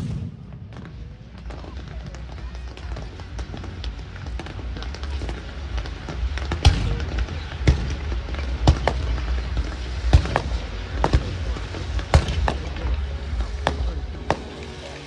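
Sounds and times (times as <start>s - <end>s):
fireworks bangs: 0.0s - 15.0s
small fireworks pops: 0.0s - 15.0s.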